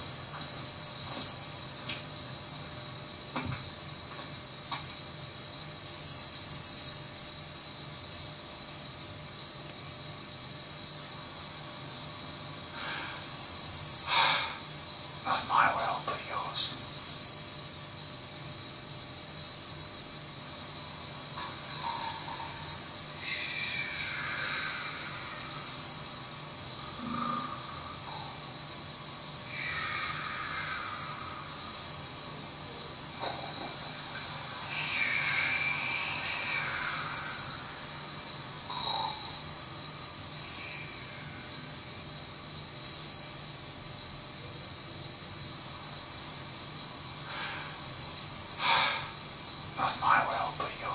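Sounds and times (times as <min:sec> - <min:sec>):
crickets chirping: 0:00.0 - 0:50.9
high-pitched insect buzz: 0:00.0 - 0:50.9.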